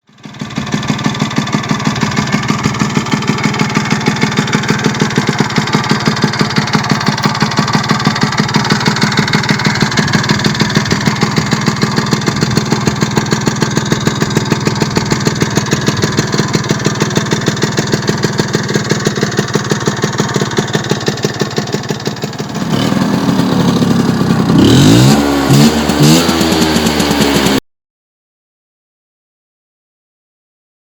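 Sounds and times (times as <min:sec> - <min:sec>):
scooter engine idling and revving: 0:00.0 - 0:27.6.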